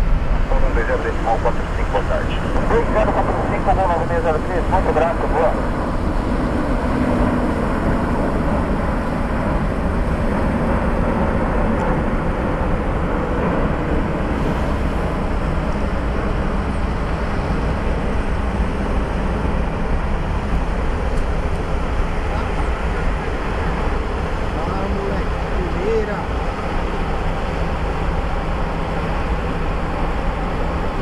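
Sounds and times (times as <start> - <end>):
jet airliner engine noise: 0.0 - 31.0.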